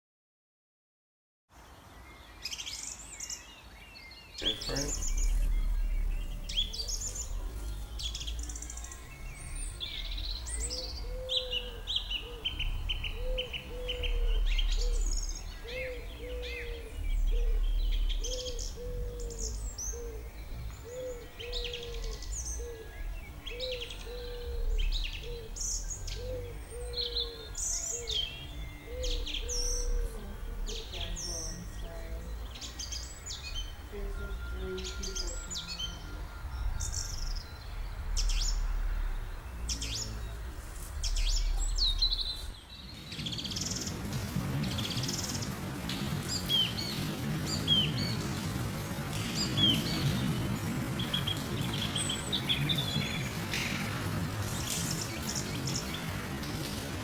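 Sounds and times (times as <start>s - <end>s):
birds singing and chirping: 1.8s - 57.0s
low rumble: 4.4s - 57.0s.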